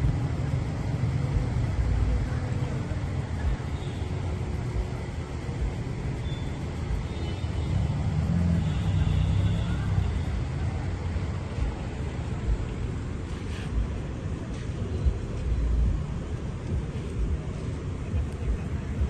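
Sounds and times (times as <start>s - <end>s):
low vehicle engine rumble: 0.0s - 19.0s
road traffic passing: 0.0s - 19.0s.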